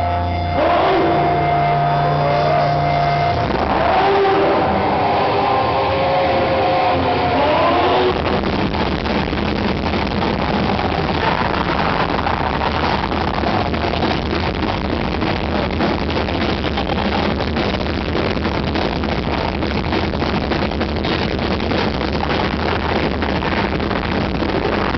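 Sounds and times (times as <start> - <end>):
live heavy metal band playing: 0.0 - 24.9.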